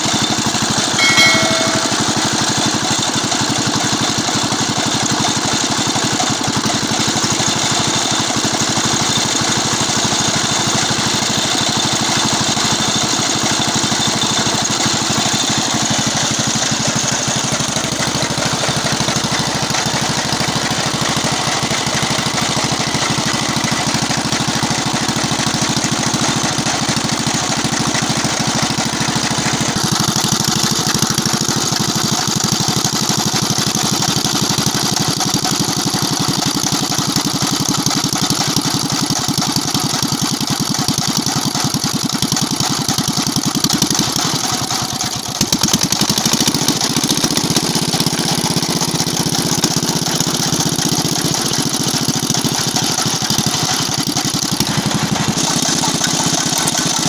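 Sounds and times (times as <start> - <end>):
single-cylinder diesel engine running: 0.0 - 57.0.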